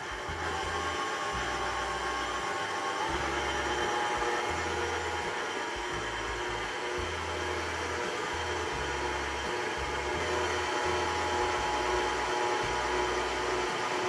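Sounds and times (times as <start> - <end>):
stand mixer motor whirring: 0.0 - 14.0.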